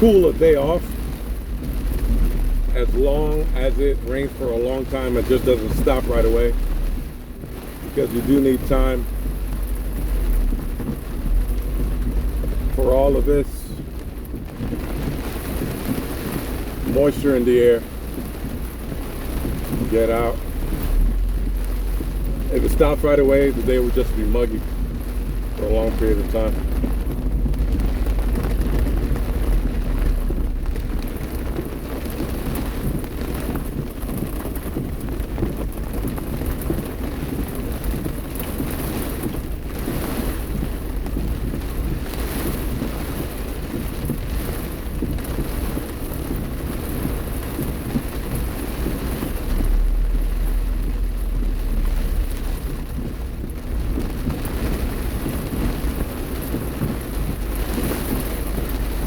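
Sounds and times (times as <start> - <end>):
low rumbles of thunder: 0.0 - 17.0, 17.8 - 59.0
heavy rain: 0.0 - 59.0.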